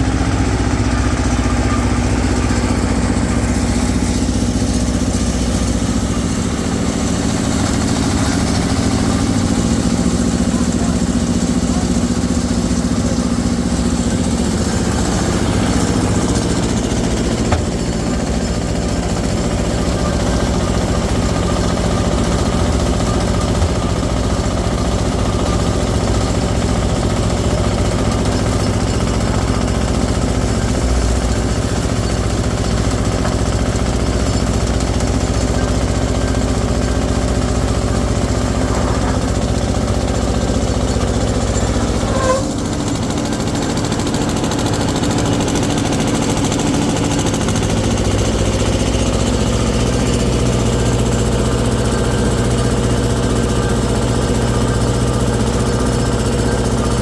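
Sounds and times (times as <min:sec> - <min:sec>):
motor running with rattling: 0:00.0 - 0:57.0.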